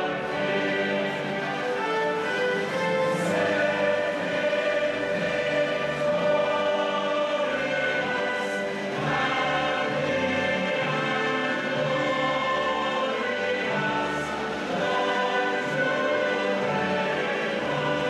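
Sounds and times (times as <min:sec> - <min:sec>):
choir singing with orchestra: 0:00.0 - 0:18.0.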